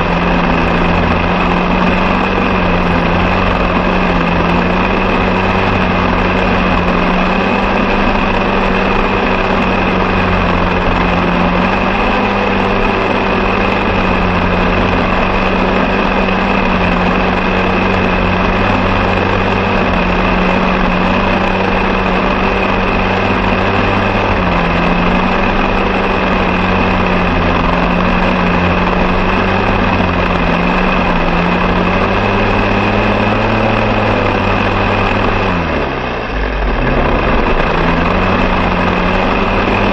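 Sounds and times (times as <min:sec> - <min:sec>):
engine running at high speed: 0:00.0 - 0:39.9.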